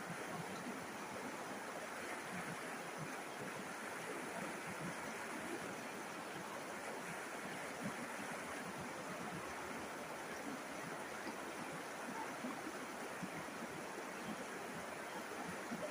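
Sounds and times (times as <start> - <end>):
river water babbling: 0.0 - 15.9.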